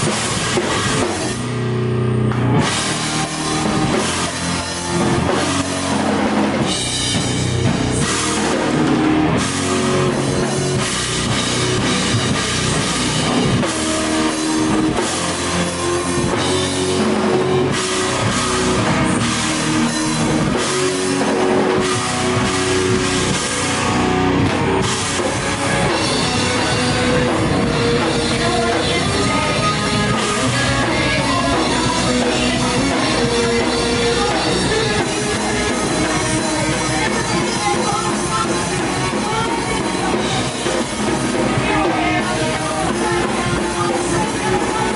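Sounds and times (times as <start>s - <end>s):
drum kit: 0.0s - 44.9s
electric guitar: 0.0s - 44.9s
rock band playing: 0.0s - 44.9s.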